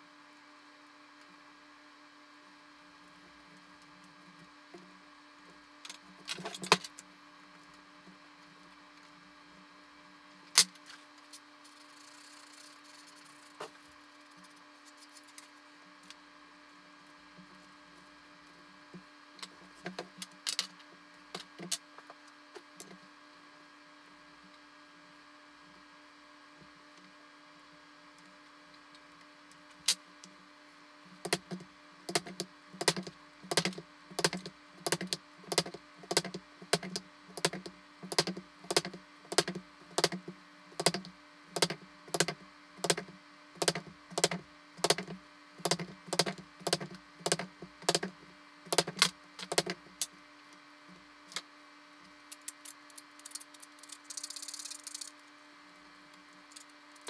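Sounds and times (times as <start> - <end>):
constant low hum: 0.0 - 57.0.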